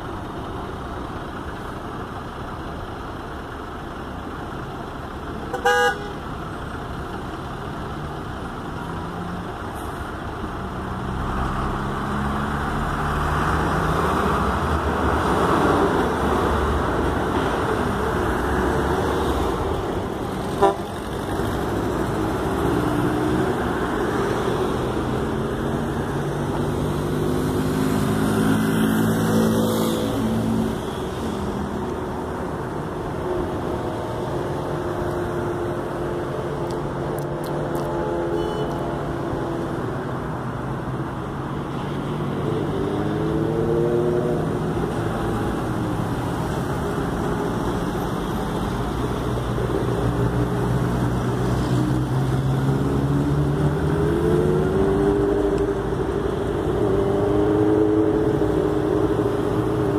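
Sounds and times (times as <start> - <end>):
highway traffic: 0.0 - 59.9.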